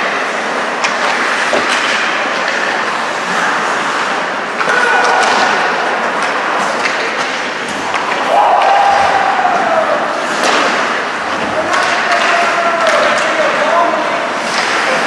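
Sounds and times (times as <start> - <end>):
hockey sticks and puck clacking: 0.0 - 15.0
skates scraping ice: 0.0 - 15.0
voices echoing in arena: 2.0 - 15.0.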